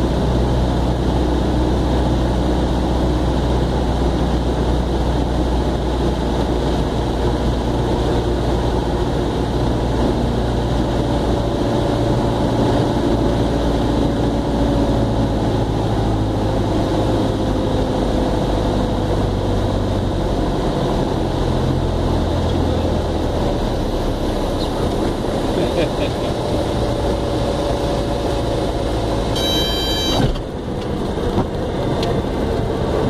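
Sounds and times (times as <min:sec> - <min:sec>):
aircraft engine drone: 0:00.0 - 0:33.0.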